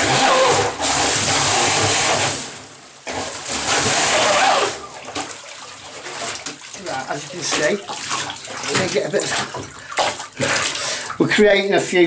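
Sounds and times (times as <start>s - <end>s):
water jet churning and splashing: 0.0s - 12.0s.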